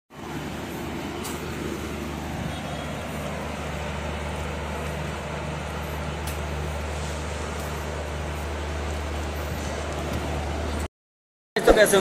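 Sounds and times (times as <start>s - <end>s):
low mechanical hum: 0.2s - 10.9s.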